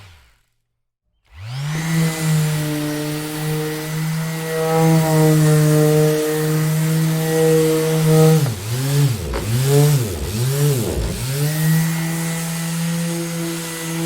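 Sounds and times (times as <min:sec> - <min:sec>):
electric orbital sander humming: 0:01.3 - 0:14.0.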